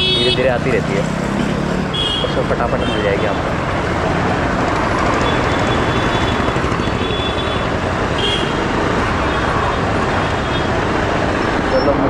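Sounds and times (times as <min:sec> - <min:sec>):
road traffic of passing motorbikes: 0:00.0 - 0:12.0.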